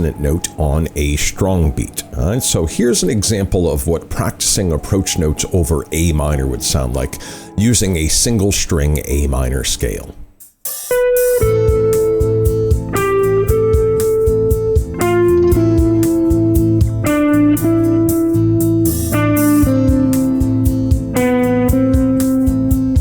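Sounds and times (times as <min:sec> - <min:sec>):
guitar scale melody: 0:00.0 - 0:09.6, 0:10.8 - 0:23.0
backing chords: 0:00.0 - 0:23.0.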